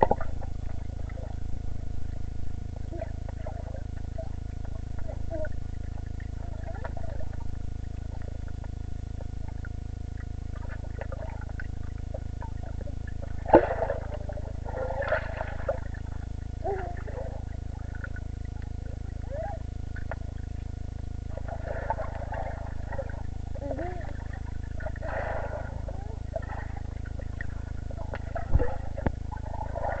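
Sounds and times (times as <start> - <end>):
low underwater rumble: 0.0 - 30.0
muffled warbling squeaks and gurgles: 0.0 - 30.0.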